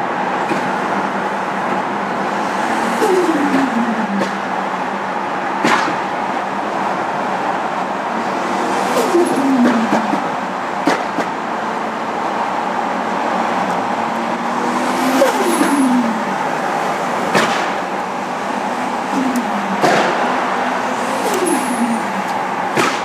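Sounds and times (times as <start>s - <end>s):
cars driving at speed: 0.0s - 23.0s.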